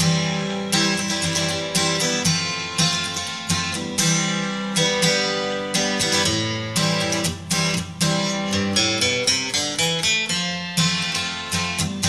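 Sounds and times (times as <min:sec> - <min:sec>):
plucked and strummed strings music: 0:00.0 - 0:12.0.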